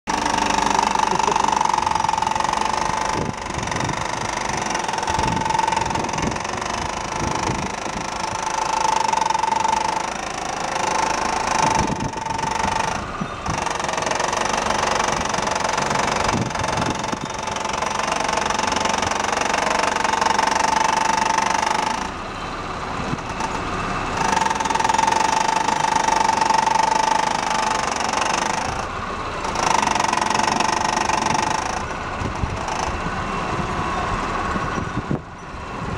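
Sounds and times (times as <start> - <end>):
car engine idling with whine: 0.1 - 35.9.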